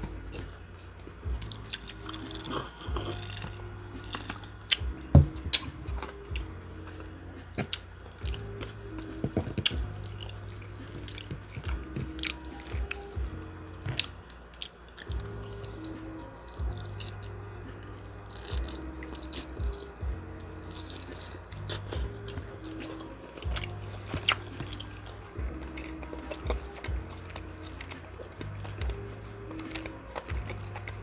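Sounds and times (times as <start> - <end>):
background music: 0.0 - 31.0
chewing and biting food: 0.0 - 31.0.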